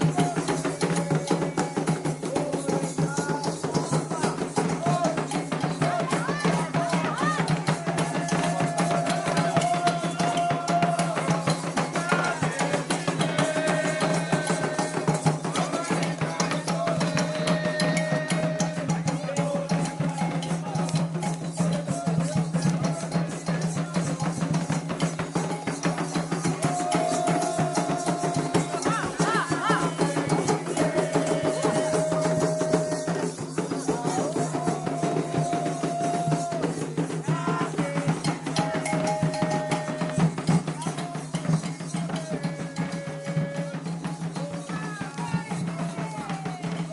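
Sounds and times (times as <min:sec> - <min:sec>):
chanted singing: 0:00.0 - 0:46.9
hand drums beating fast rhythm: 0:00.0 - 0:46.9.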